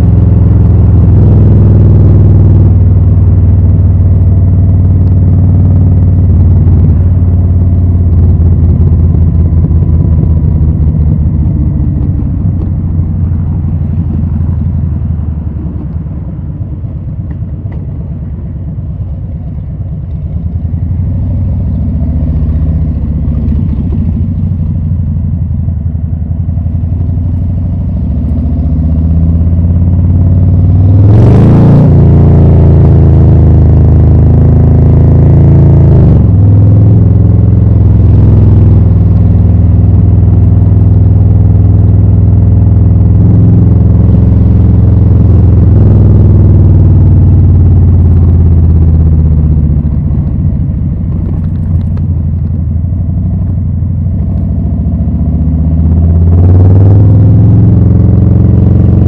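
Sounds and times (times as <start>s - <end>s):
motorcycle engine exhaust revving: 0.0s - 59.0s.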